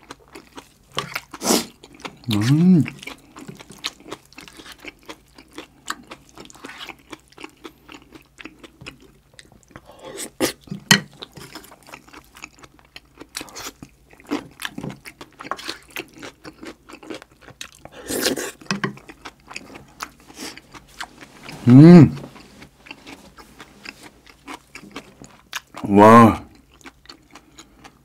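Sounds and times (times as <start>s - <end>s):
close chewing: 0.0s - 28.0s.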